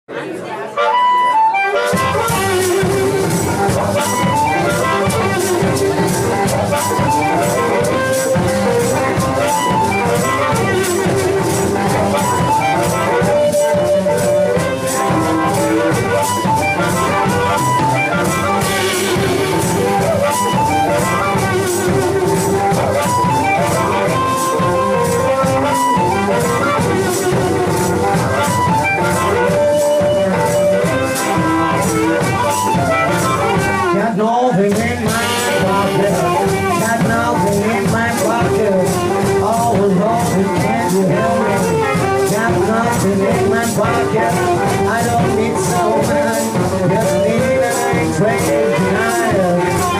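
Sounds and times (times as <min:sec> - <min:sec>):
harmonica: 0:00.6 - 0:34.1, 0:35.0 - 0:49.9
drums: 0:00.8 - 0:49.9
electric guitar: 0:00.8 - 0:49.9
maracas shaking: 0:01.5 - 0:33.9, 0:34.9 - 0:49.9.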